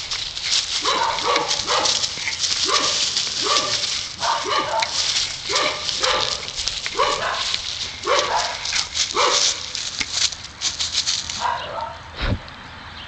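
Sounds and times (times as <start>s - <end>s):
dogs play barking: 0.0s - 10.4s, 11.2s - 12.1s
dogs scuffling: 0.0s - 11.9s.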